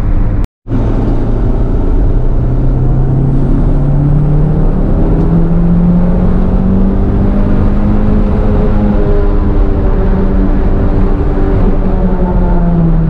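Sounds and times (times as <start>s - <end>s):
car engine accelerating: 0.0s - 13.0s
road noise: 0.0s - 13.0s.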